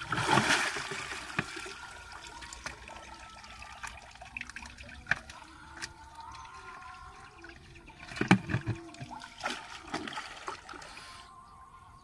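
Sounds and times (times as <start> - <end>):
water dripping and trickling: 0.0 - 11.0
muddy water splashing: 0.0 - 11.2.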